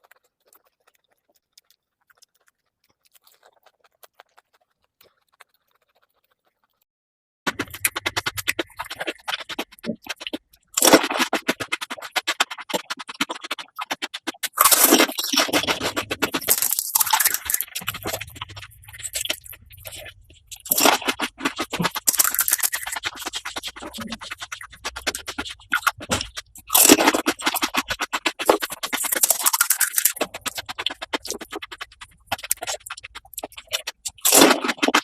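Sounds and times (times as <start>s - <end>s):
crunching and chewing: 0.0s - 6.8s, 7.5s - 35.0s.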